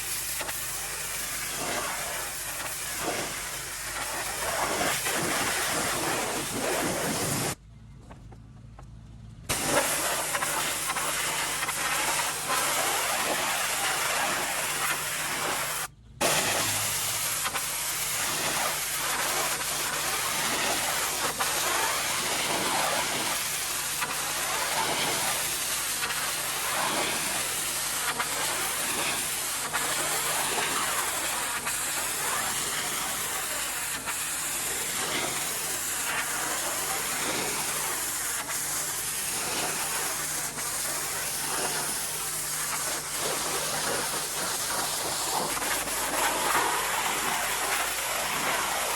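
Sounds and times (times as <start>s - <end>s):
pressure washer spray hissing: 0.0s - 7.6s, 9.5s - 48.9s.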